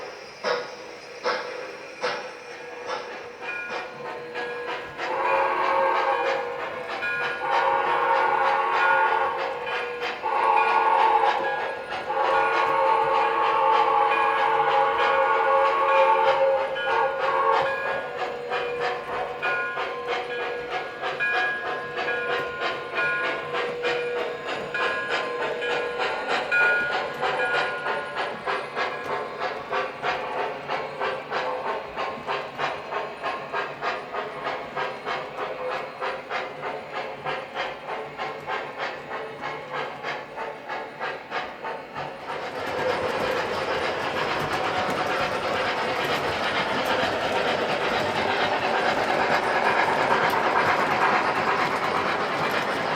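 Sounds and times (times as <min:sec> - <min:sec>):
steam locomotive chuffs: 0:00.0 - 0:52.9
train whistle: 0:00.0 - 0:52.9.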